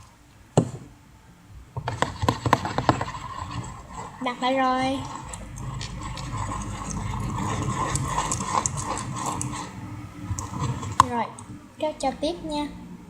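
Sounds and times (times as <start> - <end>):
slime being stirred: 1.7 - 12.4.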